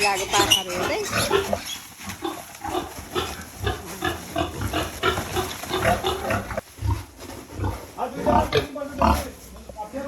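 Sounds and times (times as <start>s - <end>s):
piglets squealing and grunting: 0.0s - 9.4s.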